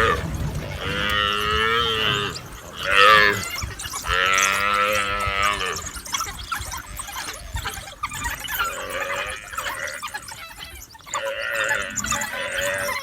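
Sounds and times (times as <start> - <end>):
buffalo bawling: 0.0 - 13.0.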